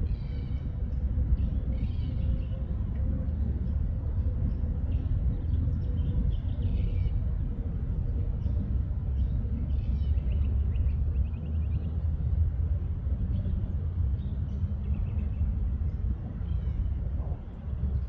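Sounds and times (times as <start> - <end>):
birds chirping: 0.0 - 18.0
distant jet engines rumbling: 0.0 - 18.0.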